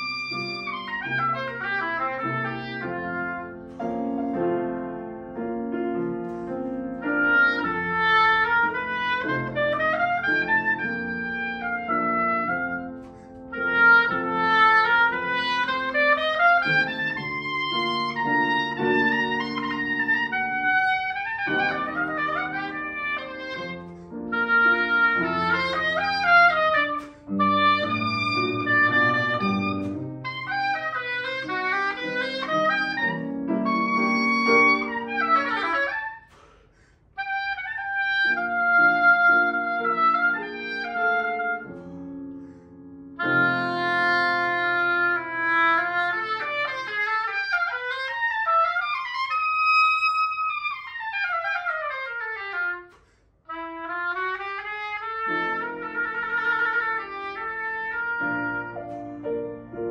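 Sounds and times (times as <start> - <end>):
soprano saxophone melody: 0.0 - 4.6, 5.7 - 36.5, 37.2 - 42.4, 43.1 - 59.9
piano accompaniment: 0.0 - 59.9.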